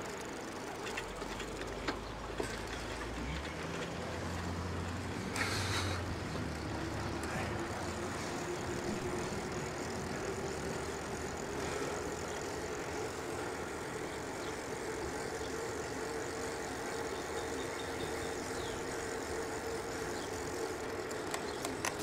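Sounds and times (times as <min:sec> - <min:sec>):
electric bike motor whining: 0:00.0 - 0:22.0.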